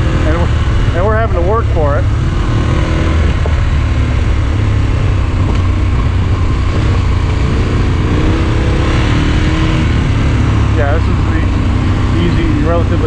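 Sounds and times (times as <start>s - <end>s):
motorcycle engine running: 0.0s - 13.0s
tyres on gravel road: 0.0s - 13.0s
wind noise: 0.0s - 13.0s.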